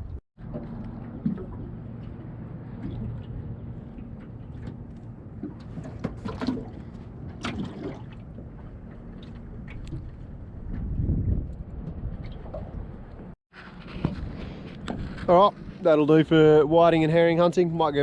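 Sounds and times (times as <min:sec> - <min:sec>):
steady low hum: 0:00.0 - 0:16.8
water splashing against boat: 0:00.4 - 0:18.0.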